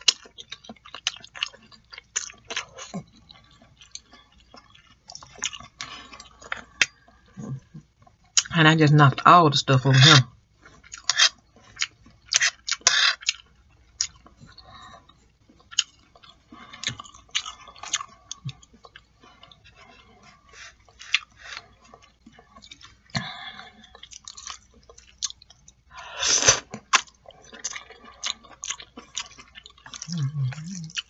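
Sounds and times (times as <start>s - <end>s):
person chewing noodles: 0.0s - 31.0s.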